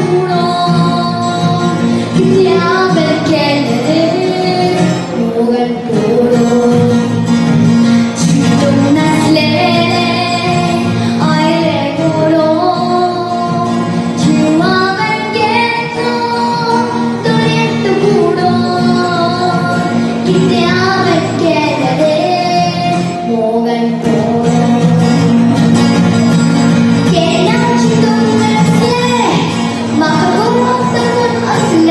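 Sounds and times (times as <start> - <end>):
girl singing: 0.0 - 7.3, 8.2 - 25.8, 26.7 - 31.9
instrumental backing: 0.0 - 31.9.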